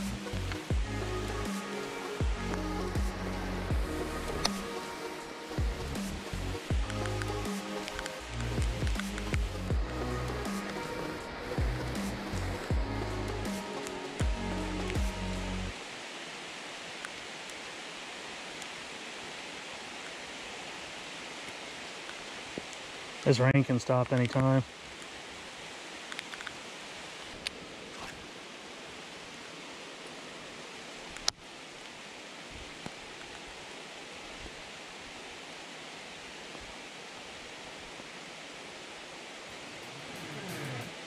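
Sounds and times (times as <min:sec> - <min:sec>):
heavy rain on pond: 0:00.0 - 0:41.0.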